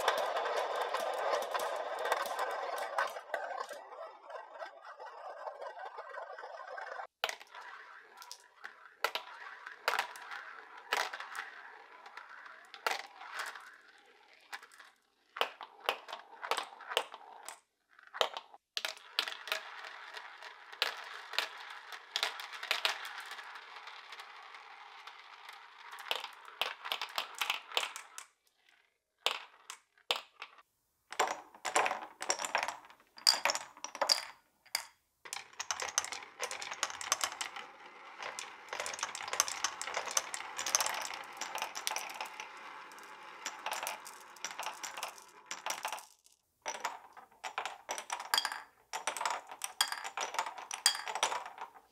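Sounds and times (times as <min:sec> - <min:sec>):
marbles clicking together: 0:00.0 - 0:04.7, 0:07.0 - 0:28.3, 0:31.2 - 0:51.9
marbles clattering down wooden track: 0:00.0 - 0:51.9
marbles rolling in plastic funnels: 0:00.0 - 0:51.9.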